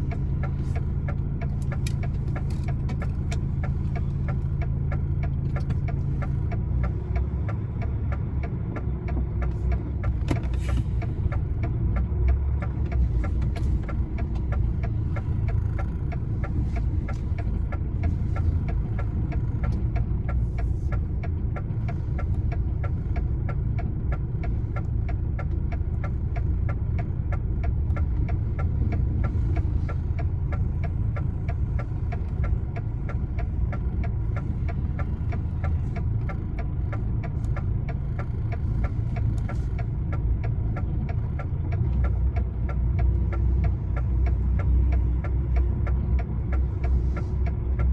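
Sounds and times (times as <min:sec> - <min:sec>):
fast regular ticking: 0:00.0 - 0:10.2, 0:11.0 - 0:47.9
diesel truck engine idling: 0:00.0 - 0:47.9.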